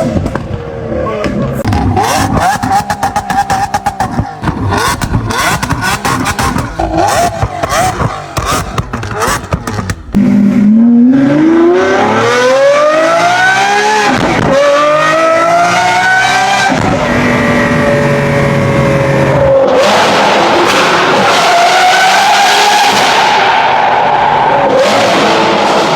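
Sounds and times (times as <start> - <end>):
car engine accelerating hard: 0.0 - 25.9.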